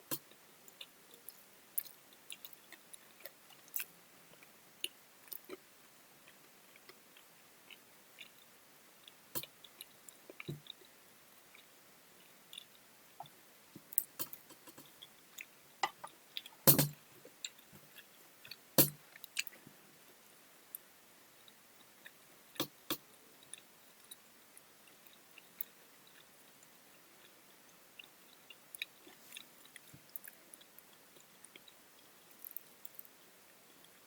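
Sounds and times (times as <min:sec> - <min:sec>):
person chewing food: 0:00.1 - 0:05.7, 0:06.3 - 0:19.6, 0:21.4 - 0:27.4, 0:28.0 - 0:34.0.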